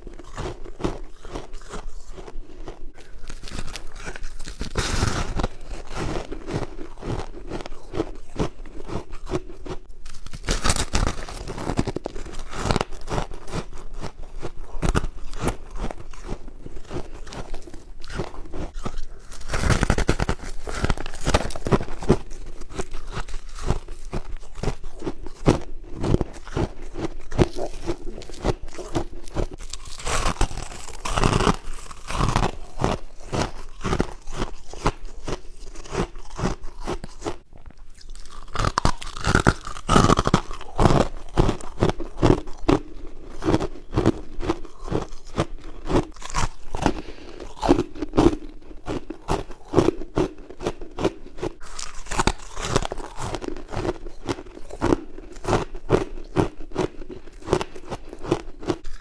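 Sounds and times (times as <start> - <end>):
crunching and chewing frost: 0.0 - 59.0.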